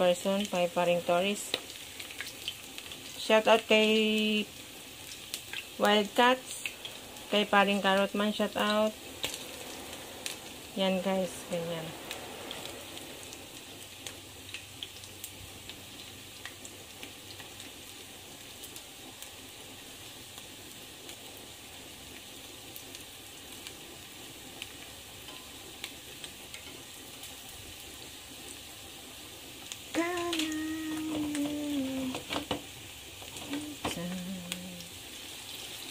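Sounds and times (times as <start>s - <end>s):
oil popping and crackling: 0.0s - 10.8s, 12.0s - 35.9s
food sizzling in oil: 0.0s - 35.9s.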